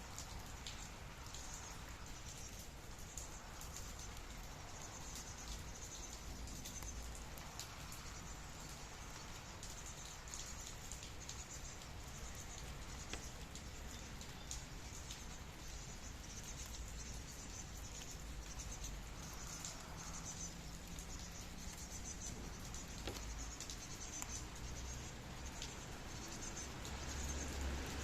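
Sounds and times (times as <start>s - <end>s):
light rain pattering: 0.0s - 28.0s
sharp drip ticks: 0.0s - 28.0s.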